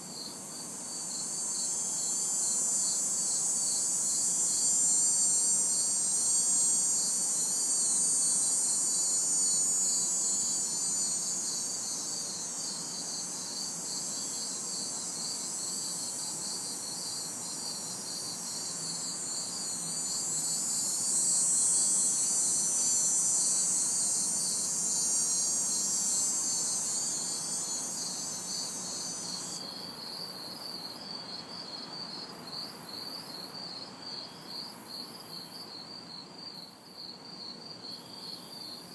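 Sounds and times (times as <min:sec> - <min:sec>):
distant traffic hiss: 0:00.0 - 0:36.9
cicadas buzzing: 0:00.0 - 0:38.9
crickets chirping: 0:00.0 - 0:38.9.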